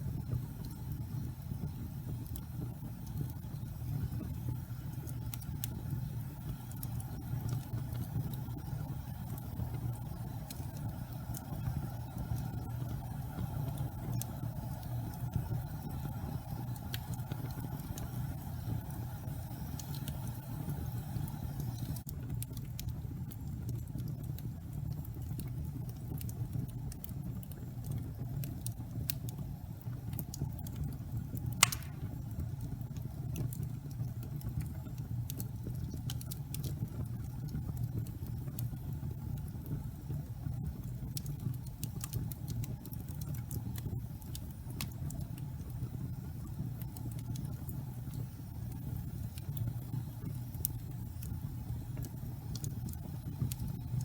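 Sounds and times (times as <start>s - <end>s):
low fire rumble: 0.0s - 54.0s
wood fire crackling: 0.0s - 54.0s.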